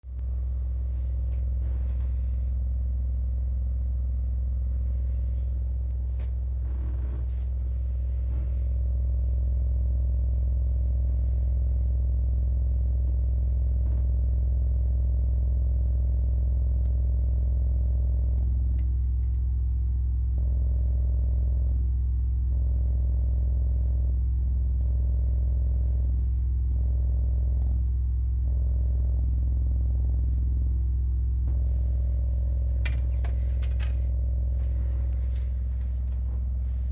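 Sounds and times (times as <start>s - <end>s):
speaker humming low: 0.1s - 36.9s.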